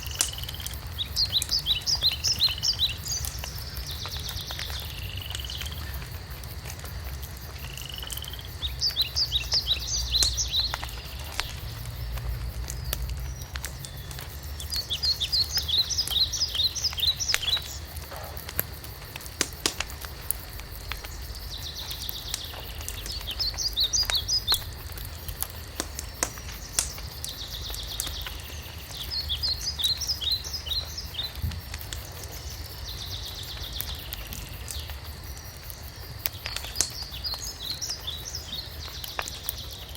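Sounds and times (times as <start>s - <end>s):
songbird singing: 0.0s - 6.4s, 7.4s - 35.1s, 35.7s - 39.9s
wood fire crackling: 0.0s - 39.9s.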